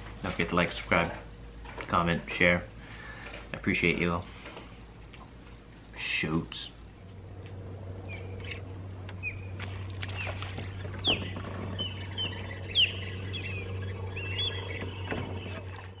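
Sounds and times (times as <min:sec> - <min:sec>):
birds chirping: 0:00.0 - 0:16.0
low hum: 0:00.0 - 0:16.0.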